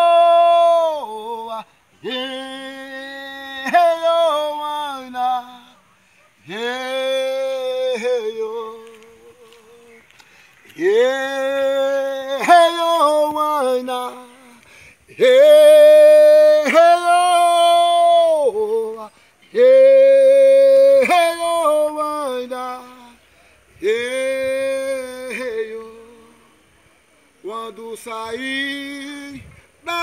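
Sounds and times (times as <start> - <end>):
man chanting unaccompanied: 0.0 - 10.1, 10.8 - 30.0.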